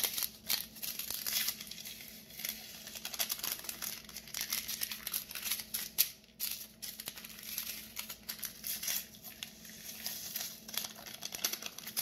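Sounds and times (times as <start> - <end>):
paper packets crinkling and tearing: 0.0 - 12.0.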